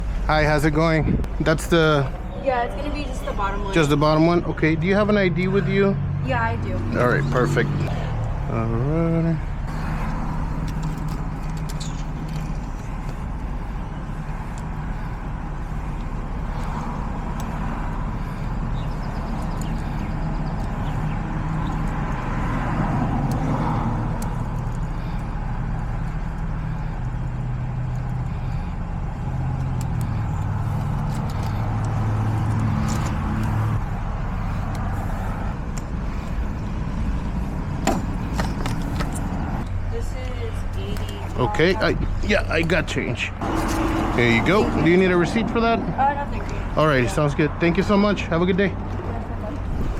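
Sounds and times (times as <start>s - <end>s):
low mechanical drone: 0.0s - 49.9s.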